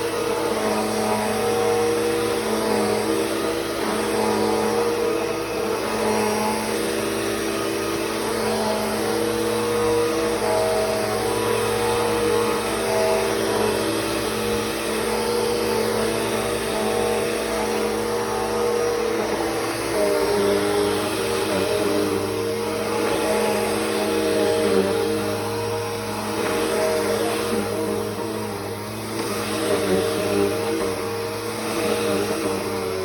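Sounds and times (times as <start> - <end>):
vacuum cleaner motor hum: 0.0 - 33.0.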